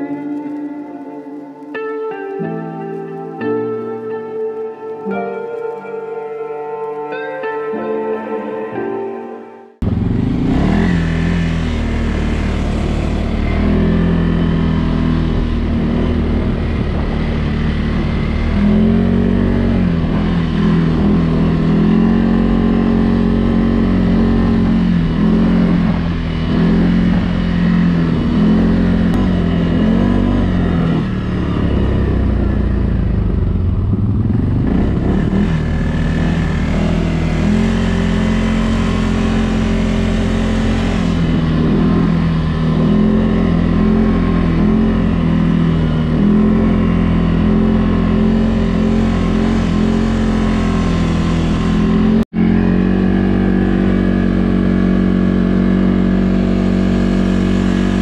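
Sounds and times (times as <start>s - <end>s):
atv engine revving: 9.8s - 58.0s.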